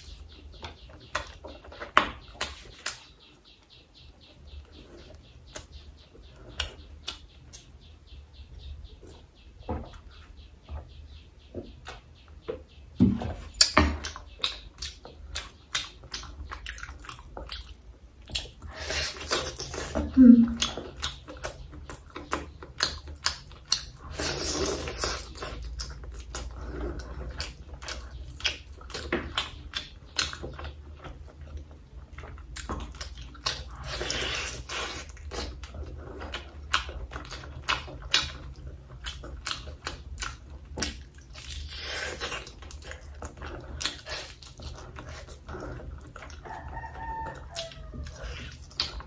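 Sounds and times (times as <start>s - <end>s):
person chewing meat: 0.0s - 7.8s, 13.5s - 49.0s.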